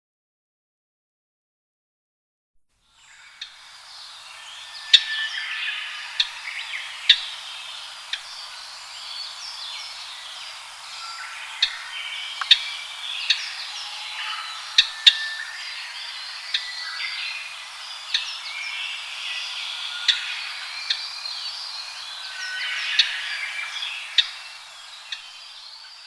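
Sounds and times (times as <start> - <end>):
birds singing whistled notes: 3.0 - 26.0.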